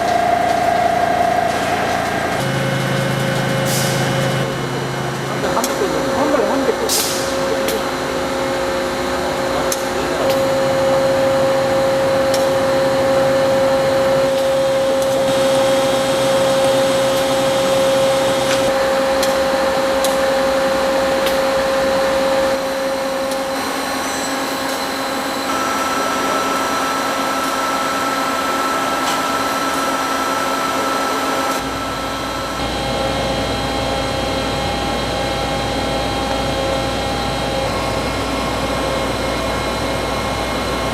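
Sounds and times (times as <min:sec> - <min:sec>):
machine whine: 0:00.0 - 0:40.9.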